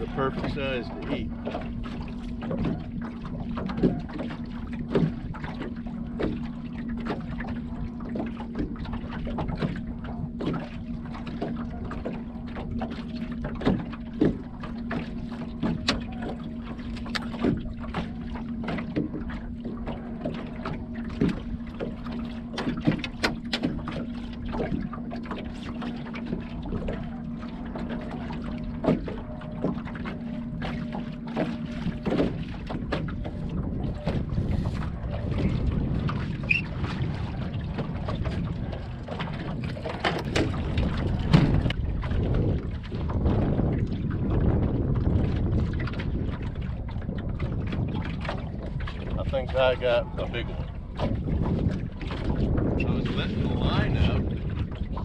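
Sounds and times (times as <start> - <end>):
knocks and taps on boat: 0.0 - 55.0.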